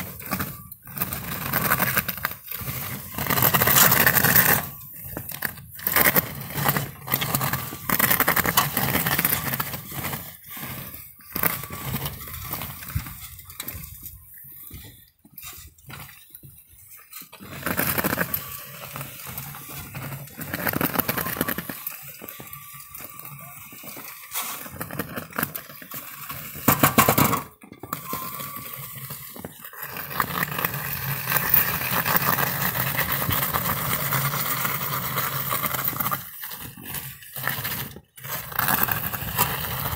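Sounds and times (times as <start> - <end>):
plow blade scraping snow: 0.0 - 16.2, 16.8 - 26.9, 27.9 - 39.9.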